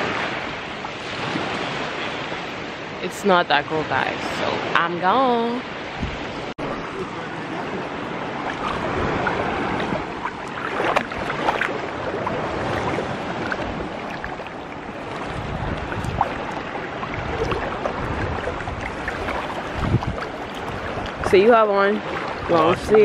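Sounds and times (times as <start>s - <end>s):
sea washing: 0.0s - 23.0s
water sloshing and splashing: 0.0s - 23.0s.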